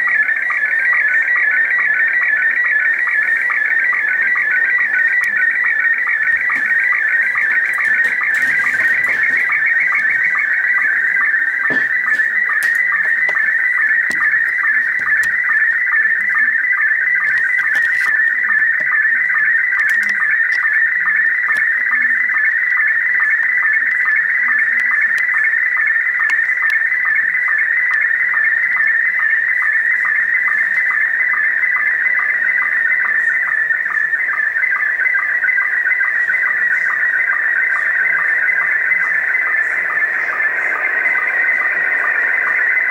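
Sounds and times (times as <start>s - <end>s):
radio hiss: 0.0s - 42.9s
short low sync beeps: 0.0s - 42.9s
warbling high tone: 0.0s - 42.9s.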